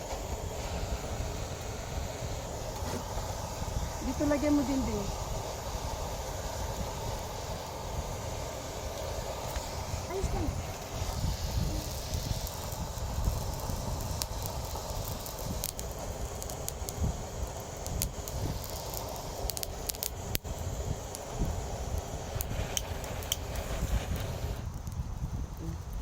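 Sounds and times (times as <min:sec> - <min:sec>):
charcoal fire crackling: 0:00.0 - 0:26.0.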